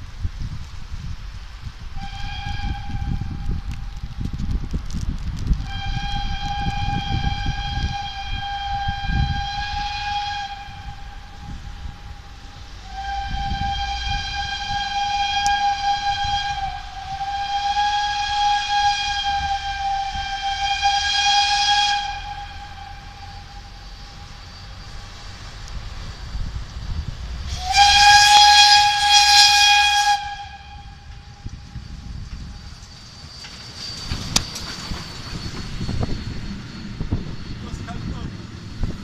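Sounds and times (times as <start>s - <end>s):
wind rumbling on microphone: 0.0s - 39.0s
steam locomotive whistle: 1.9s - 3.9s, 5.6s - 38.9s.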